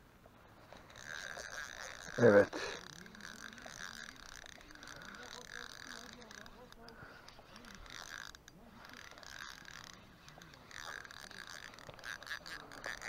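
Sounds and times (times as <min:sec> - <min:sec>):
fishing reel whirring: 0:00.4 - 0:13.0.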